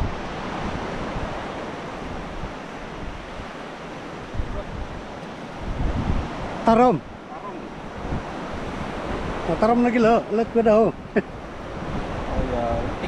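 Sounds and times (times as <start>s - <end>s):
surf on a beach: 0.0s - 13.0s
wind rumbling on microphone: 0.0s - 13.0s.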